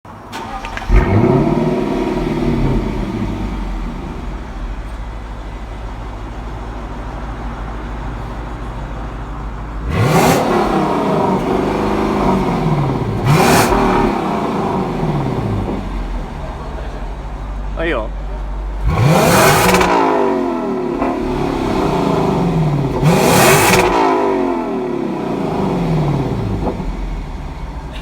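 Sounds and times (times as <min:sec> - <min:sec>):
car engine idling: 0:00.1 - 0:28.0
car engine starting: 0:00.1 - 0:28.0
car engine revving: 0:00.3 - 0:28.0.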